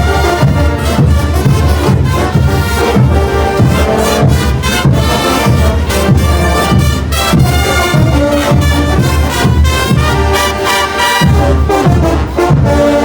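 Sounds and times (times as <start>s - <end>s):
brass band playing: 0.0s - 13.0s
drum beat: 0.0s - 13.0s.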